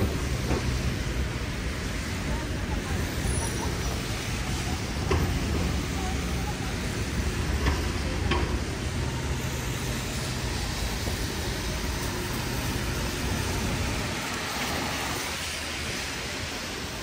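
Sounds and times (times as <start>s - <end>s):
engine rumble: 0.0s - 17.0s
tyres hissing on wet road: 0.0s - 17.0s.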